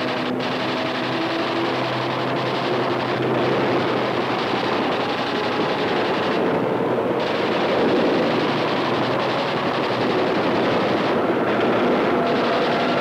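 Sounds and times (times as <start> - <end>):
aircraft engines roaring: 0.0 - 13.0.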